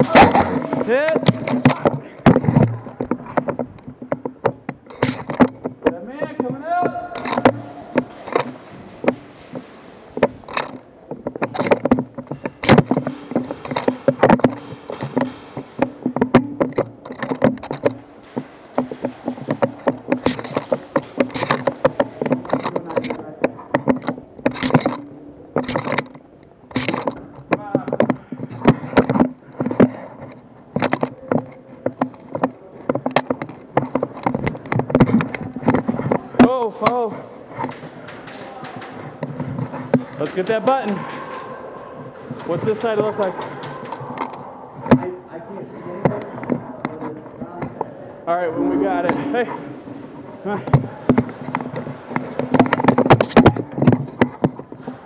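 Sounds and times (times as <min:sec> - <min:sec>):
sharp knocks and clicks: 0:00.0 - 0:45.2, 0:50.5 - 0:55.0.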